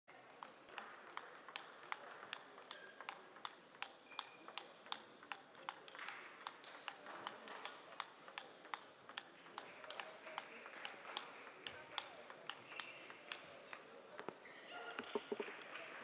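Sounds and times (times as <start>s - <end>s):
table tennis ball rally: 0.4s - 16.0s.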